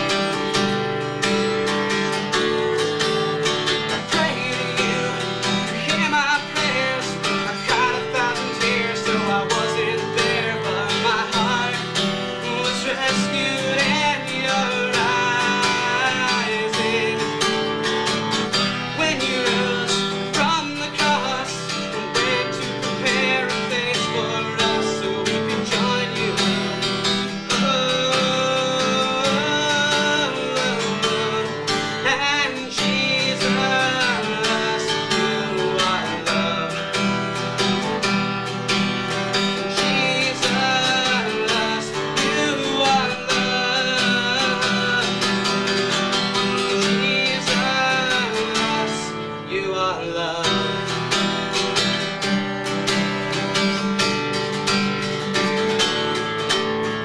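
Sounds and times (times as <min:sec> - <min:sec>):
solo acoustic guitar: 0:00.0 - 0:57.0.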